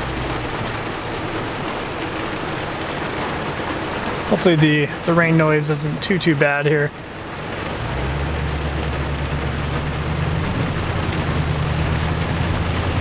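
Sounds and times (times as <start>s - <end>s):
engine low drone: 0.0s - 13.0s
rain on vehicle: 0.0s - 13.0s
tyre noise on wet road: 0.0s - 13.0s.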